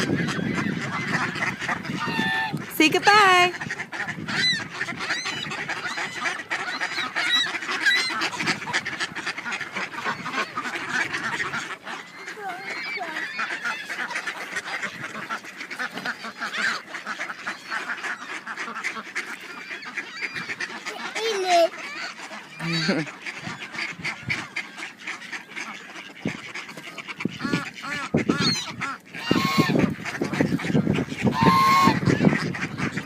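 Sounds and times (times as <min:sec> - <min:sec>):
ducks quacking: 0:00.0 - 0:33.0
geese honking: 0:00.0 - 0:33.0.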